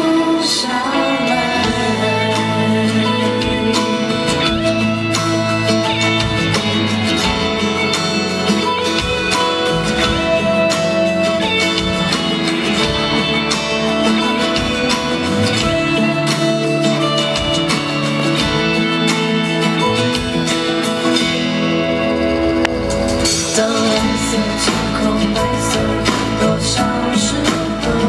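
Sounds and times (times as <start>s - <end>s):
guitar: 0.0s - 28.0s
bass line: 1.3s - 28.0s
sustained chords: 1.5s - 28.0s.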